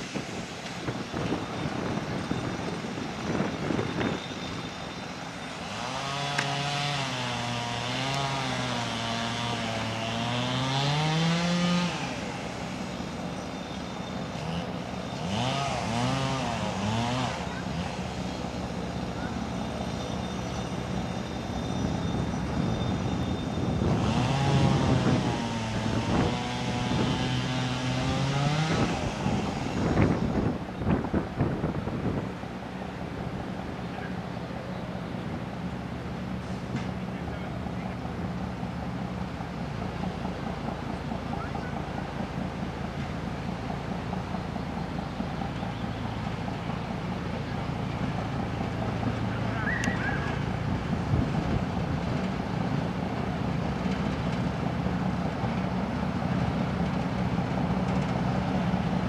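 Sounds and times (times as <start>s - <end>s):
locomotive diesel engine revving: 1.6s - 13.3s, 14.1s - 59.0s.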